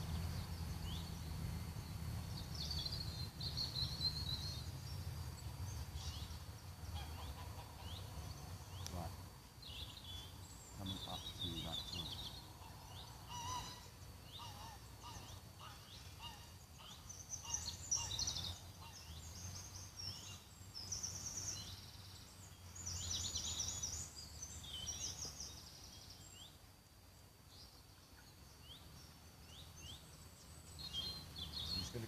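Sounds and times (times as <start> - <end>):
birds chirping and trilling: 0.0 - 32.0.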